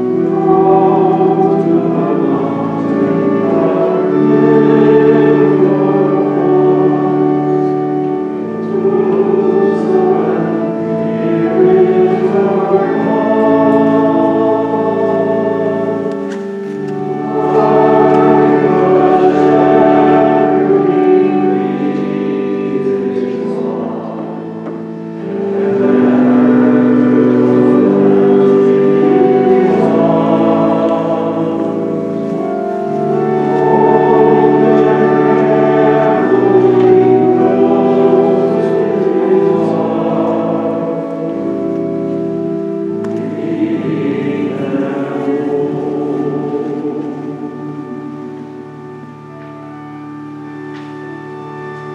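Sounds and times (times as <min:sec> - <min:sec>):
congregation singing a hymn: 0:00.0 - 0:51.9
organ chords: 0:00.0 - 0:51.9.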